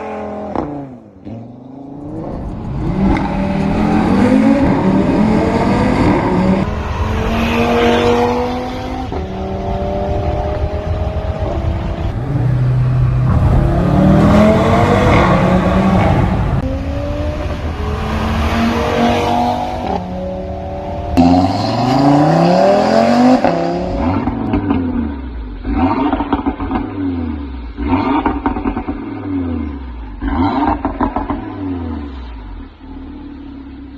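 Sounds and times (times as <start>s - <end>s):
car engine accelerating through gears: 0.0s - 32.7s.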